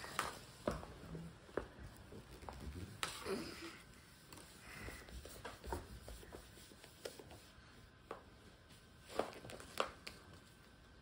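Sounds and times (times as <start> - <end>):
feather toy rustling on floor: 1.8 - 10.8.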